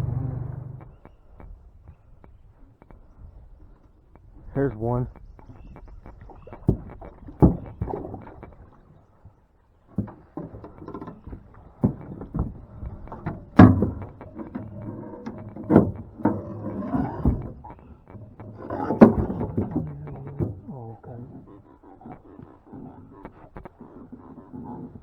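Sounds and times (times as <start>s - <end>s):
knocks and thumps in a boat: 0.0s - 21.4s.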